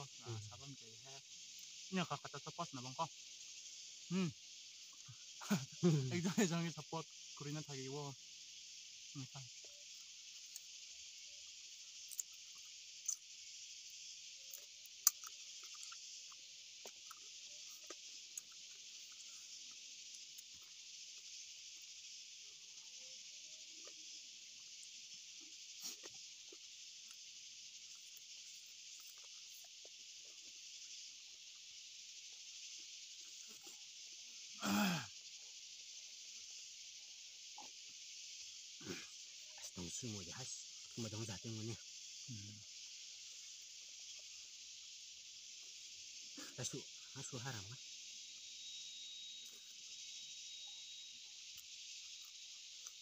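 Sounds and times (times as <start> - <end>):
insect chorus buzzing: 0.0 - 53.0.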